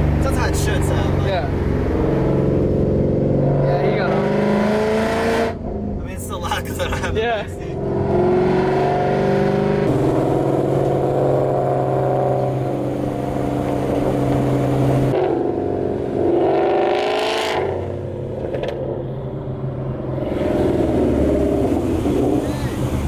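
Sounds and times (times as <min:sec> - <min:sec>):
car exhaust revving: 0:00.0 - 0:06.0, 0:07.4 - 0:23.0.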